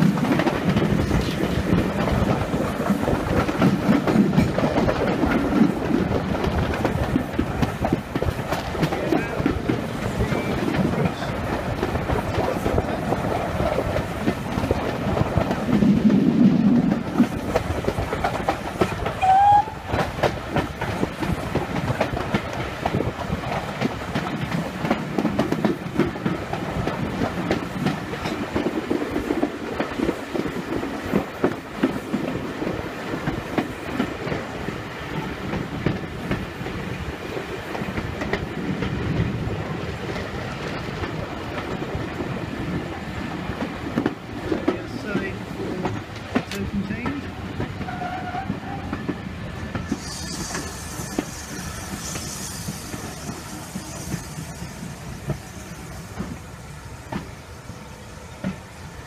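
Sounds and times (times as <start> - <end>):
train wheels clattering on track: 0.0 - 59.0.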